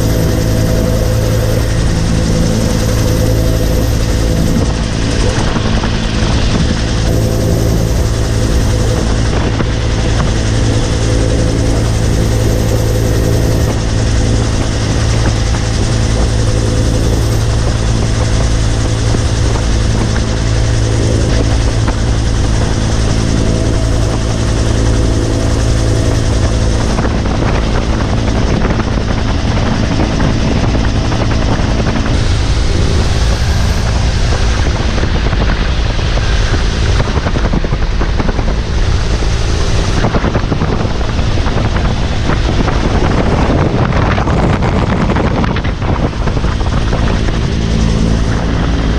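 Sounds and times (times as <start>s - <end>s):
helicopter rotor and engine noise: 0.0s - 48.9s.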